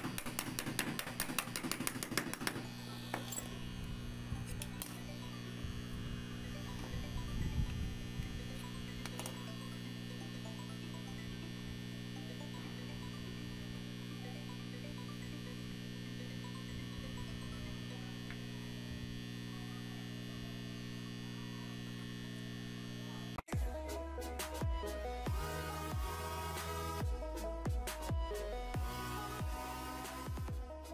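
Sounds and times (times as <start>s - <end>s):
transformer mains hum: 0.0s - 30.8s.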